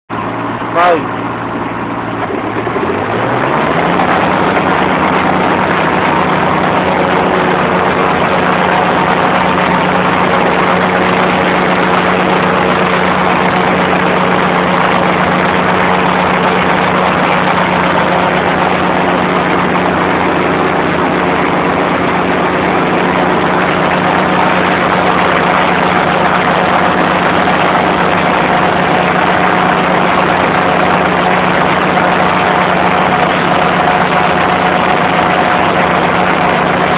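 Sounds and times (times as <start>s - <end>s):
mower engine running: 0.1s - 36.9s.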